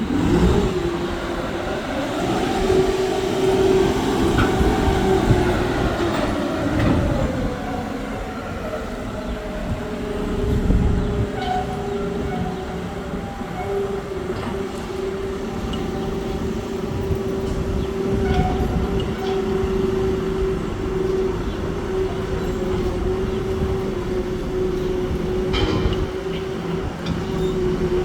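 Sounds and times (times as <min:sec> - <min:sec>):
construction machinery humming: 0:00.0 - 0:28.0.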